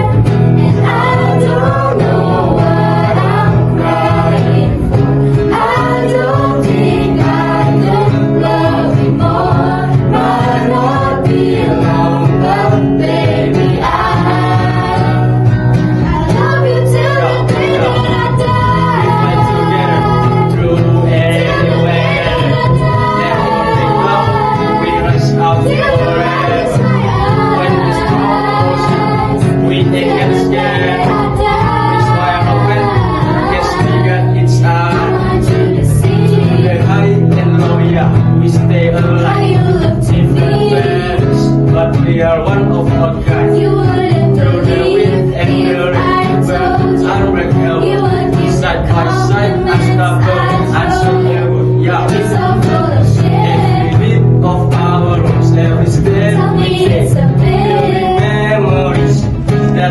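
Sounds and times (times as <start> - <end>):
sustained musical accompaniment: 0.0 - 59.9
vocal group singing in harmony: 0.0 - 59.9.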